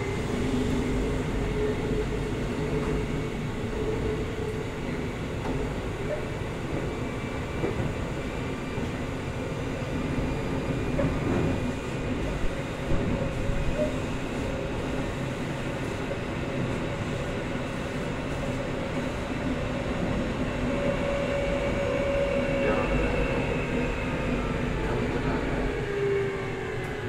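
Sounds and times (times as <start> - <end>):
wheels rumbling on rail: 0.0 - 27.0.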